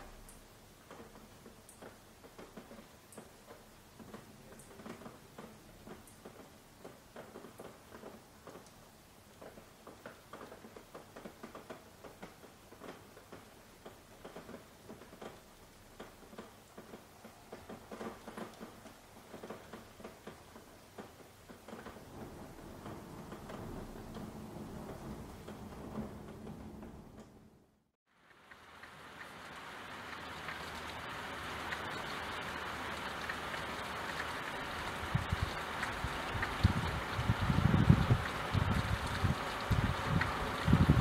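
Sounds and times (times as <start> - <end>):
raindrops pattering: 0.0 - 41.0.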